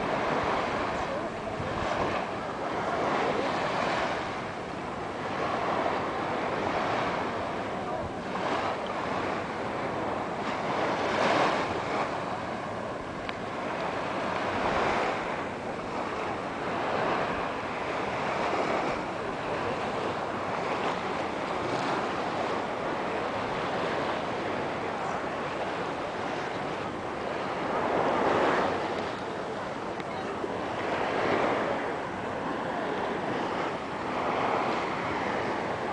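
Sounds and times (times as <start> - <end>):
small waves washing: 0.0 - 35.9
wind on microphone: 0.0 - 35.9.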